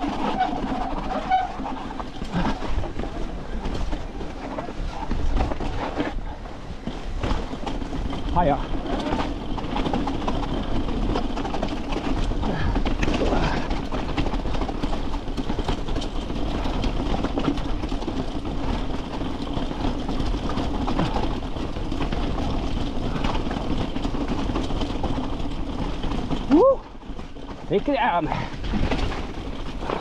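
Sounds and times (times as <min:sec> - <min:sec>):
bike rattling over rocky trail: 0:00.0 - 0:30.0
tyre and wind rumble: 0:00.0 - 0:30.0.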